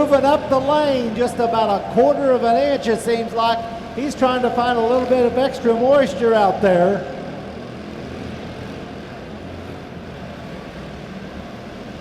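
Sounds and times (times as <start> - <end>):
race car engines buzzing: 0.0 - 12.0.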